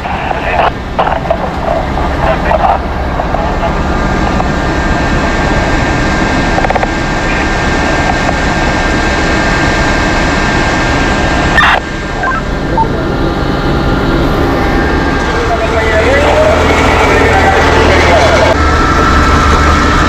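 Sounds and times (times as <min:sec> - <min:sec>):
fire engine pump droning: 0:00.0 - 0:20.0.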